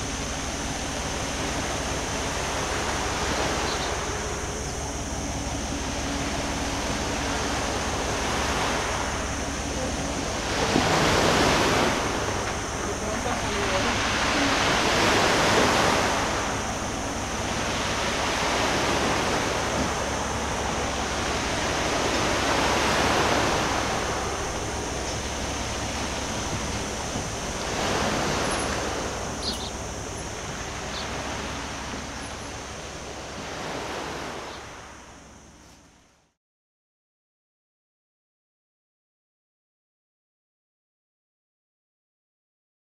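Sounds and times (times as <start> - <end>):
sea waves washing: 0.0 - 35.7.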